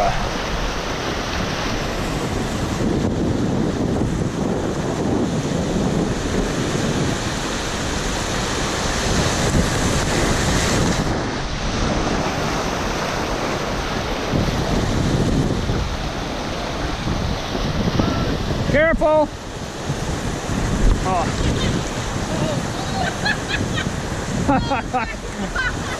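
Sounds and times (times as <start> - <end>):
whitewater rushing: 0.0 - 25.9
wind buffeting microphone: 0.0 - 25.9.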